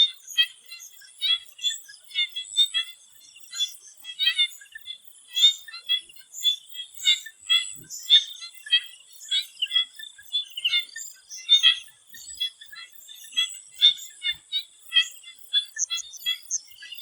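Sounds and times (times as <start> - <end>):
frogs calling in chorus: 0.0 - 17.0.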